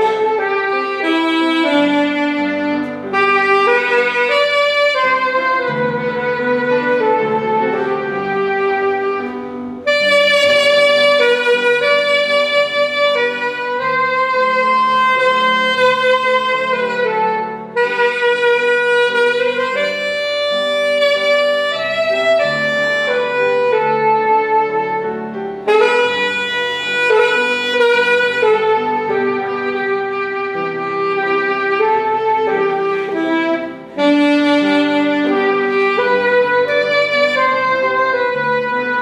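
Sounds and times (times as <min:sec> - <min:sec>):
saxophone-like melody: 0:00.0 - 0:39.0.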